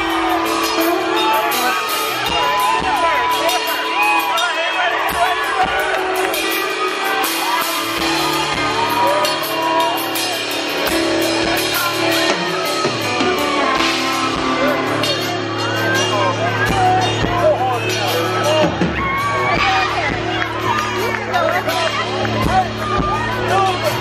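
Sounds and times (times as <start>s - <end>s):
crowd voices: 0.0s - 24.0s
live country band through a pa: 0.0s - 24.0s.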